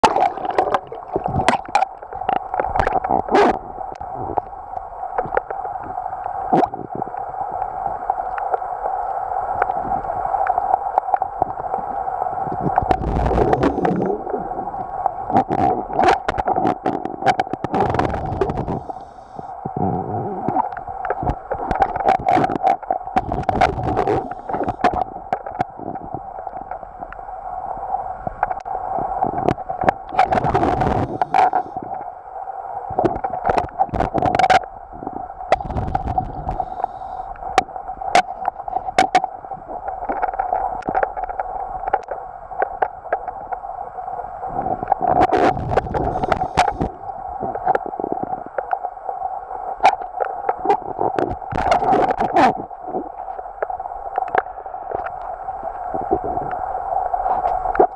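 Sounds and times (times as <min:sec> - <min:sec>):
water gurgling and sloshing: 0:00.0 - 0:57.9.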